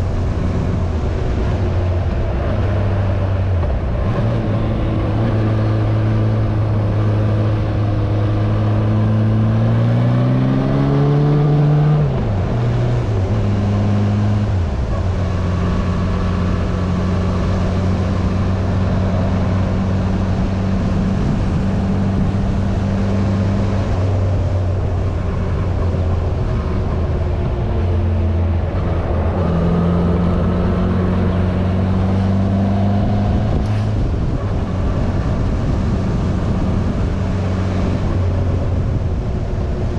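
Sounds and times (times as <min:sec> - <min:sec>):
motorcycle engine accelerating: 0:00.0 - 0:39.9
steady rush of noise: 0:00.0 - 0:39.9.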